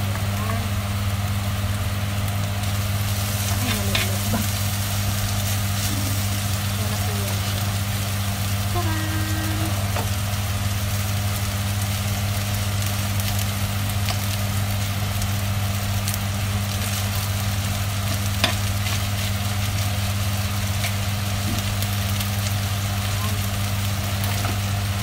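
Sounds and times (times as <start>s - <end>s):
food sizzling in a pan: 0.0s - 25.0s
steady low hum: 0.0s - 25.0s.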